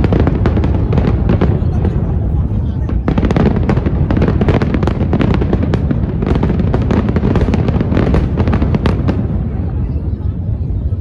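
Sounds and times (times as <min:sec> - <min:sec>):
continuous low rumble: 0:00.0 - 0:11.0
fireworks bangs and crackles: 0:00.0 - 0:11.0.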